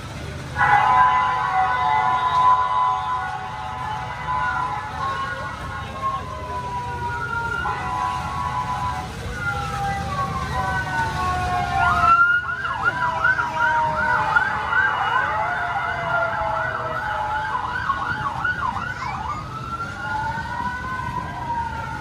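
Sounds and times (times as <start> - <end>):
electronic sirens: 0.6 - 22.0.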